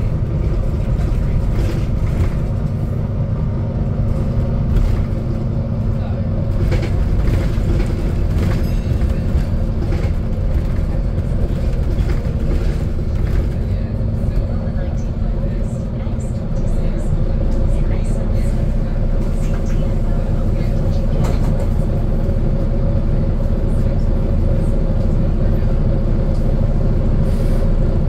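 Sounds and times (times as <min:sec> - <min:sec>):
bus diesel engine running: 0:00.0 - 0:28.0
road noise: 0:00.0 - 0:28.0.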